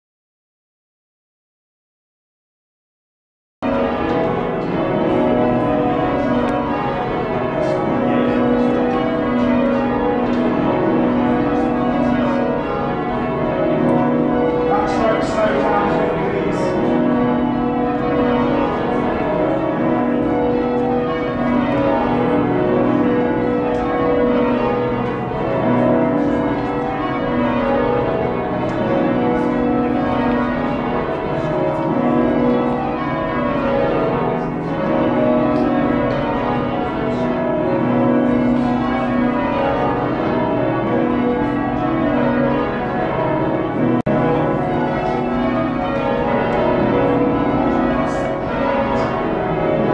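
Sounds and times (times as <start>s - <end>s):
church bells change ringing: 3.6s - 49.9s.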